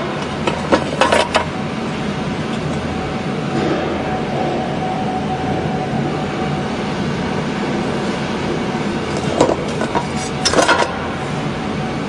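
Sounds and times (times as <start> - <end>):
machine motor hum and whine: 0.0 - 12.0.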